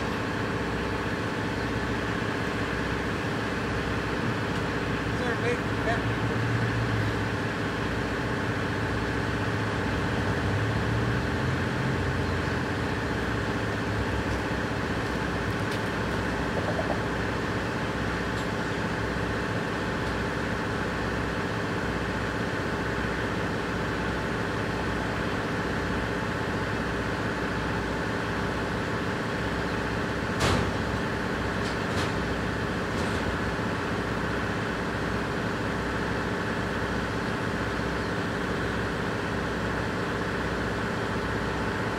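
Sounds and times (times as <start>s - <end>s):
diesel locomotive engines idling: 0.0s - 41.9s.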